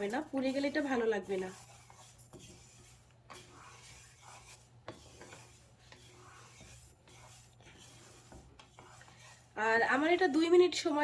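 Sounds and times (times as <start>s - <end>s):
spatula scraping dry lentils: 0.0s - 10.5s.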